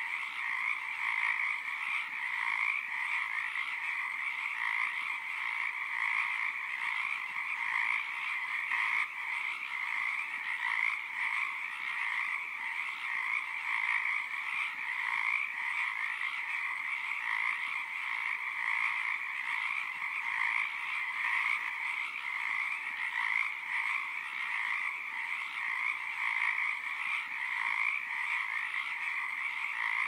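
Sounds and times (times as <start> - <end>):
frogs chorus: 0.0 - 30.0.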